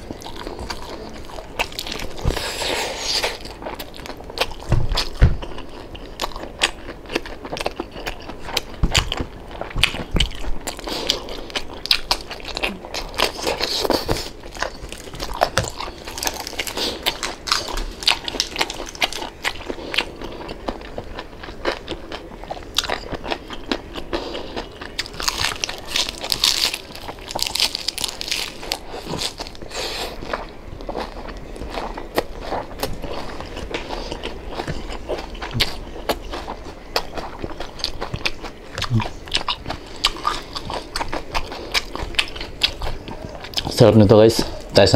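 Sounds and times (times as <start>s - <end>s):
person crunching crispy skin: 0.0s - 43.8s.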